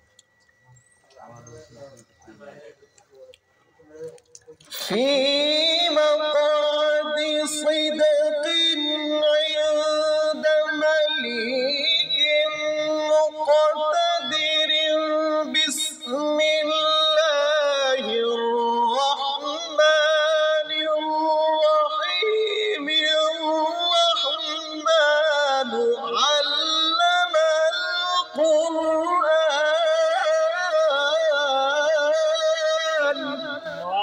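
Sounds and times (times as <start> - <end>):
man chanting melodically: 0.6 - 34.0.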